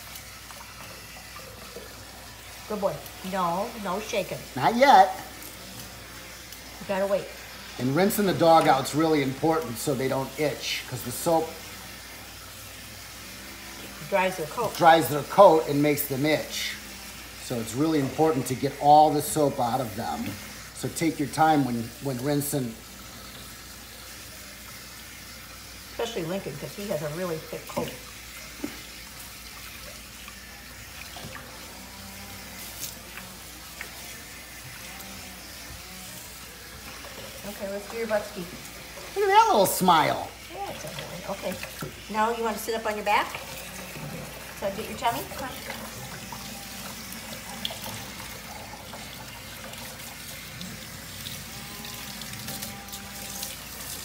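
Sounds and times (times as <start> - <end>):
faucet sprayer hissing: 0.0 - 54.0
water splashing into metal sink: 0.0 - 54.0.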